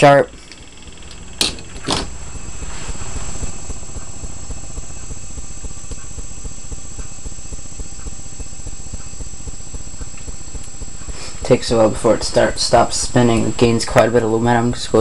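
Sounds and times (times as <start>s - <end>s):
motor whine with grinding disc rattle: 0.0s - 15.0s.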